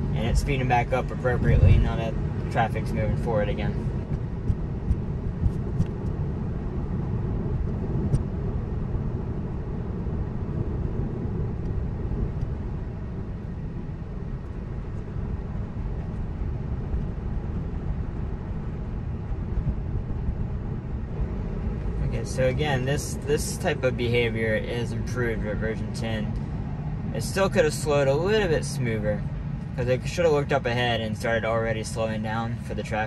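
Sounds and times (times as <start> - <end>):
road and tyre noise in car: 0.0 - 33.0.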